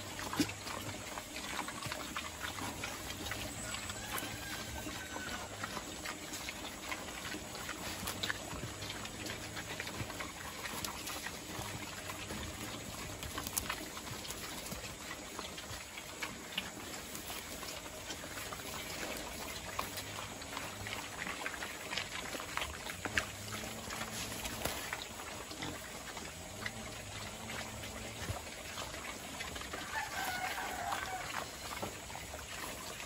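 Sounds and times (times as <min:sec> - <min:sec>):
pigs crunching and smacking: 0:00.0 - 0:33.0.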